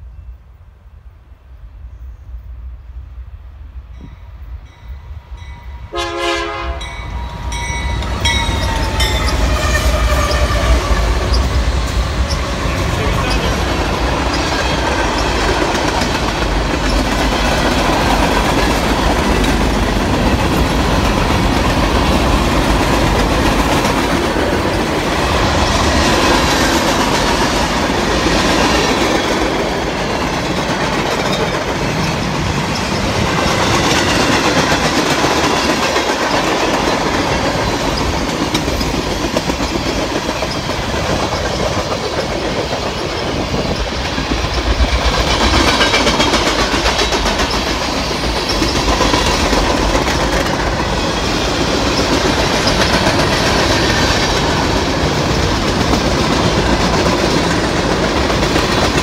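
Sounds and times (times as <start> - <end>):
freight train wheels on rails: 1.4 - 59.0
diesel locomotive rumble: 5.2 - 59.0.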